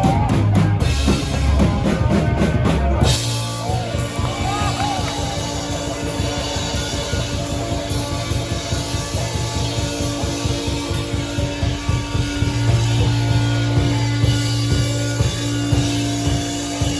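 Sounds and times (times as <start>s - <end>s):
distorted guitar and bass: 0.0s - 16.9s
fast dense drumming: 0.0s - 16.9s.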